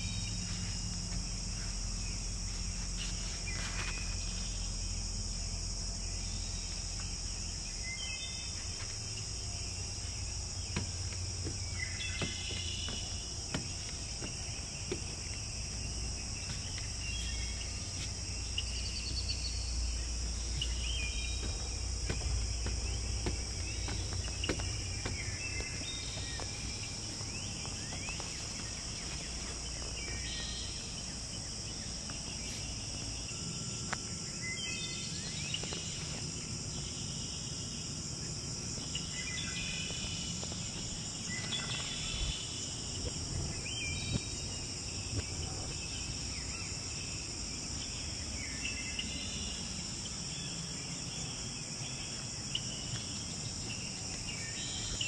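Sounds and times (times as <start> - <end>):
high-pitched insect chorus: 0.0 - 55.0
short insect chirps: 0.0 - 55.0.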